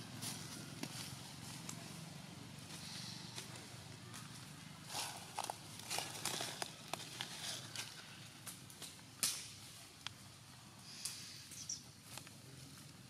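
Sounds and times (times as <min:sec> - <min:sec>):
dry leaves and twigs crackling: 0:00.0 - 0:13.0.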